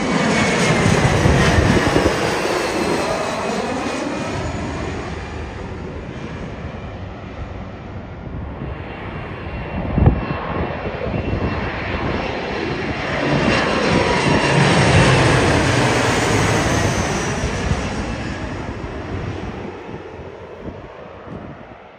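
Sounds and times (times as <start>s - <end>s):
jet passing overhead: 0.0s - 21.9s.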